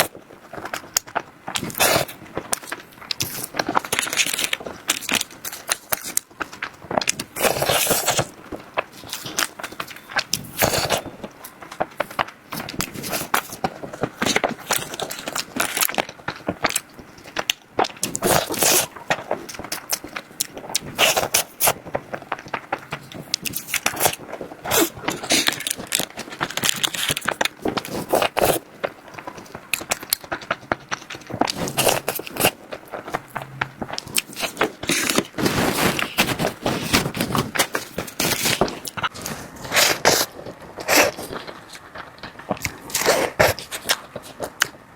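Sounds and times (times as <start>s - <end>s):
eating and chewing: 0.0s - 44.8s.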